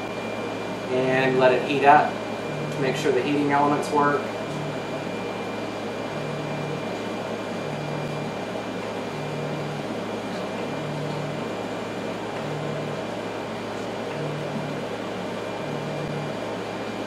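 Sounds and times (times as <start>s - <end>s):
printer steady hum: 0.0s - 17.0s
stepper motor tone: 0.0s - 17.0s.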